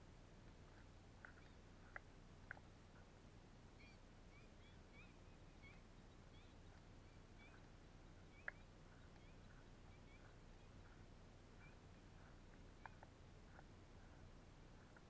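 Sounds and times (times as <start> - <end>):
faint curving bird chirps: 0.2 - 15.0.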